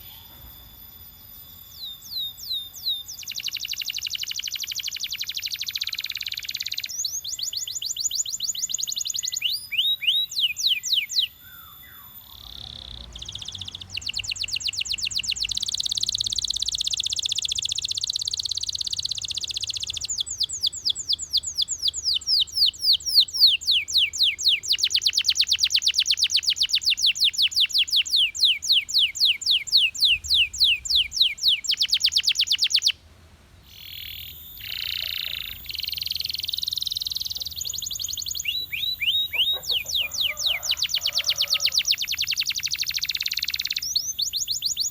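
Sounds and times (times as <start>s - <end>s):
canary singing trills: 0.0s - 33.0s, 33.6s - 44.9s.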